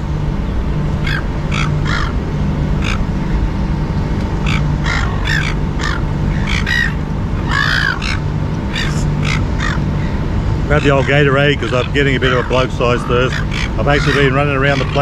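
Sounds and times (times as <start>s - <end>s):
gulls calling harshly: 0.0s - 15.0s
low hum: 0.0s - 15.0s.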